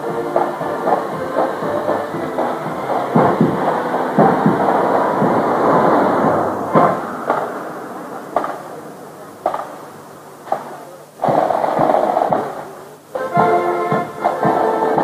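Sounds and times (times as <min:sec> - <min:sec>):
videotape hiss: 0:00.0 - 0:15.0
burst of rough noise: 0:00.4 - 0:13.0.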